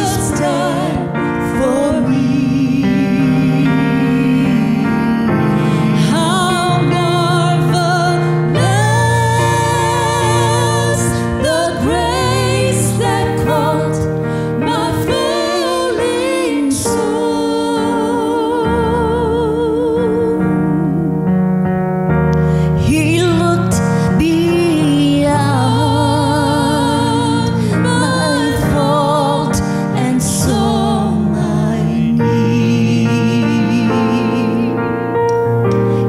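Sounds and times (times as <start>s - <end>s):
women singing gospel in harmony: 0.0s - 21.1s, 22.8s - 34.8s
keyboard accompaniment: 0.0s - 36.0s.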